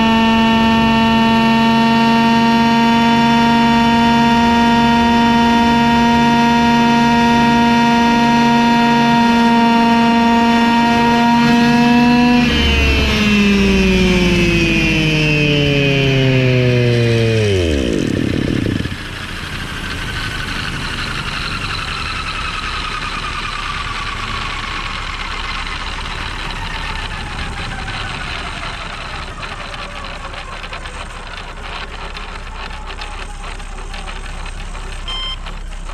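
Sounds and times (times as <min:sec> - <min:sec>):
model helicopter drive whine: 0:00.0 - 0:35.9.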